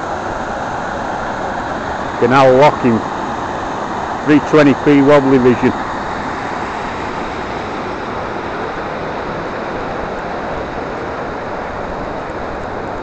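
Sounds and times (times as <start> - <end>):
water rushing over lock gate: 0.0 - 13.0.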